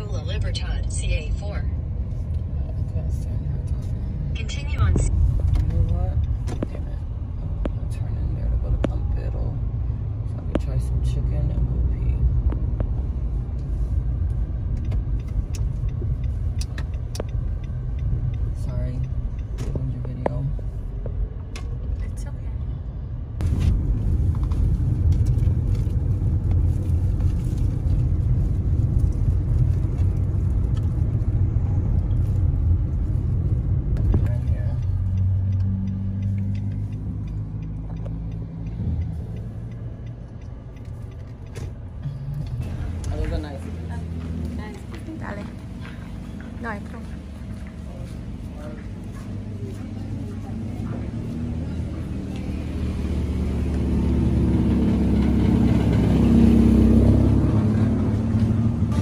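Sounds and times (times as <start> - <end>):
turn signal ticking: 0.0 - 22.6, 23.8 - 59.0
road and engine rumble: 0.0 - 59.0.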